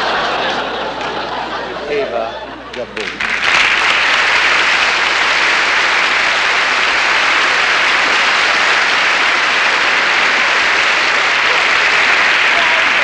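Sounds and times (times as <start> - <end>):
large audience applauding: 0.0 - 1.6, 2.7 - 13.0.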